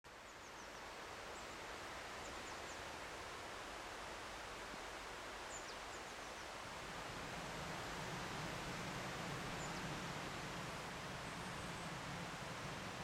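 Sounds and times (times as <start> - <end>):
steady low hiss: 0.1 - 13.0.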